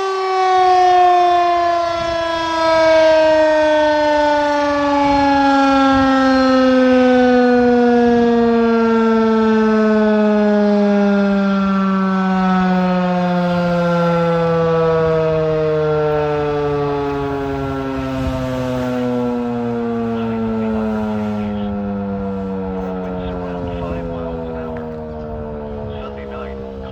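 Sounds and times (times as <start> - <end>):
warning siren winding down: 0.0 - 26.9.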